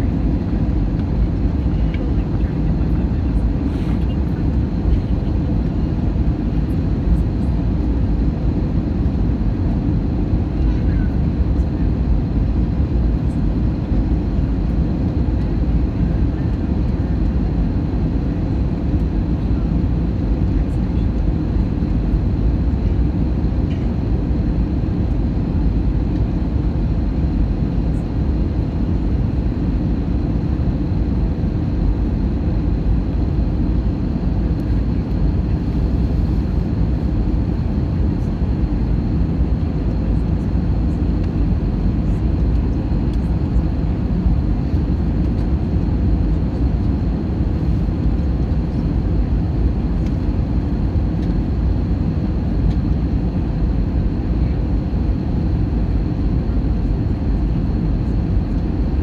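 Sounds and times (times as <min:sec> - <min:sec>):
jet engines low rumble: 0:00.0 - 0:59.0.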